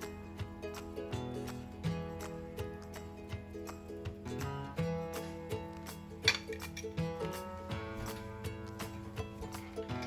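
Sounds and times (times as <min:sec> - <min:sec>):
plucked-string background music: 0:00.0 - 0:10.0.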